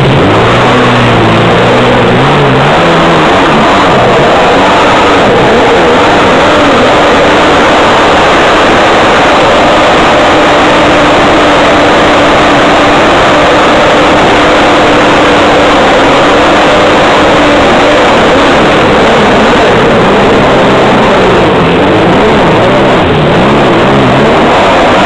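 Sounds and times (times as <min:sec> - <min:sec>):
jet ski engine running hard: 0:00.0 - 0:25.0
rushing water: 0:00.0 - 0:25.0.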